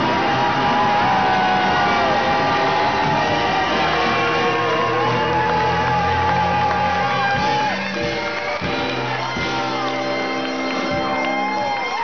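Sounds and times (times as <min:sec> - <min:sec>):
horn band playing rhythm and blues: 0:00.0 - 0:12.0.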